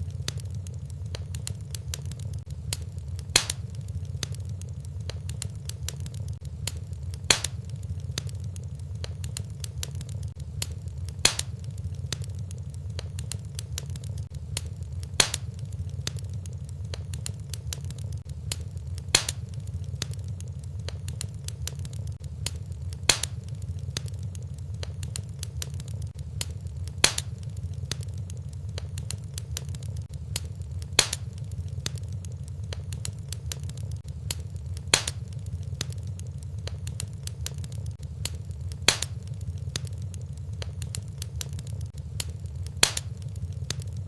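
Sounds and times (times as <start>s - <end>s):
fire popping: 0.0s - 44.0s
wood fire crackling: 0.0s - 44.0s.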